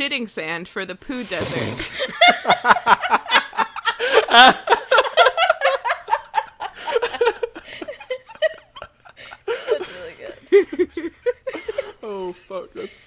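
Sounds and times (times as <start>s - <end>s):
people laughing: 1.8s - 12.9s.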